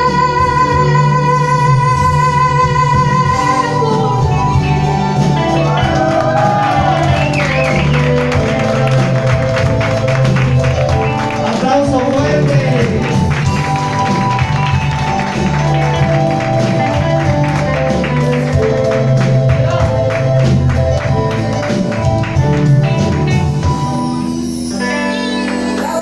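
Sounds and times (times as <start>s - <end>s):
live band instrumental chords: 0.0s - 26.0s.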